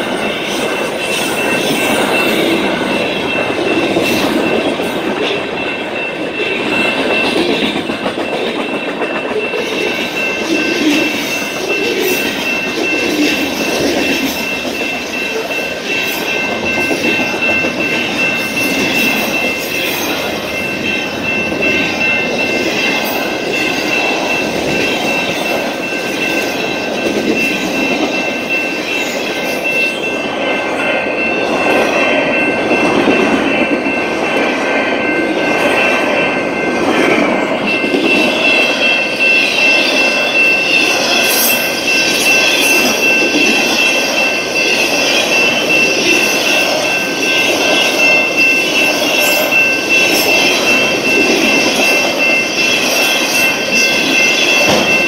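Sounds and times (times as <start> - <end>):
clickety-clack over rail joints: 0.0 - 30.7, 31.4 - 55.0
train wheels rumbling on rails: 0.0 - 55.0.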